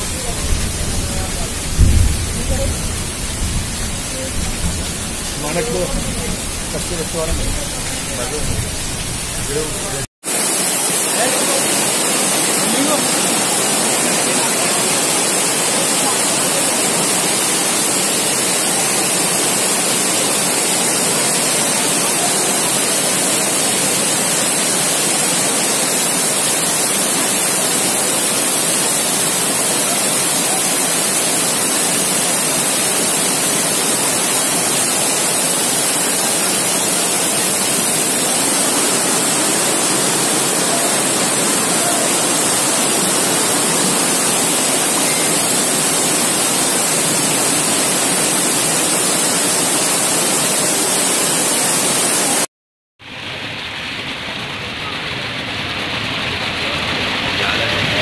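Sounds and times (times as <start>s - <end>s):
floodwater rushing down street: 0.0s - 58.0s
heavy downpour: 0.0s - 58.0s.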